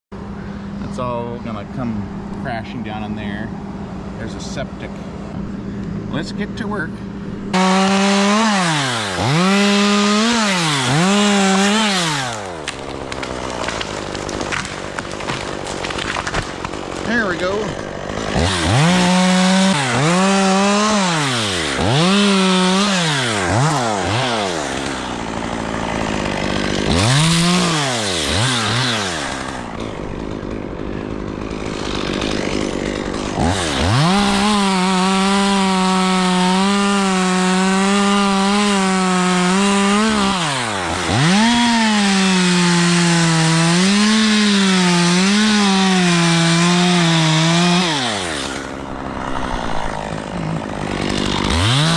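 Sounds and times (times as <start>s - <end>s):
chainsaw revving and cutting wood: 0.2s - 51.9s.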